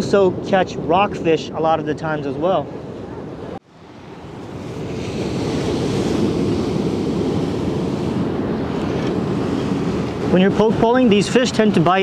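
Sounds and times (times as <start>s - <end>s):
ocean surf on rocky shore: 0.0s - 12.0s
wind on microphone: 0.0s - 12.0s.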